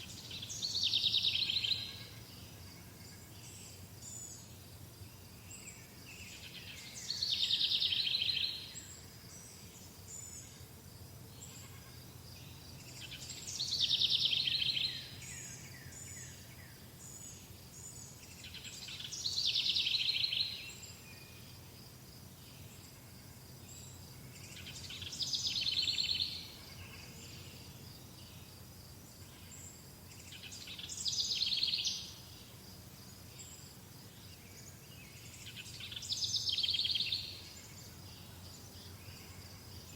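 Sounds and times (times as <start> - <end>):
songbird trilling song: 0.0 - 2.6, 3.3 - 10.5, 12.4 - 21.6, 23.7 - 28.6, 29.4 - 32.6, 33.2 - 39.9.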